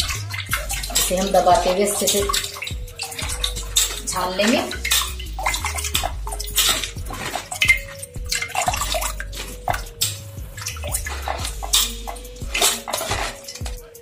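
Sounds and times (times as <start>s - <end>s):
splashes and trickles: 0.0s - 14.0s
water pouring through a sieve: 0.0s - 14.0s.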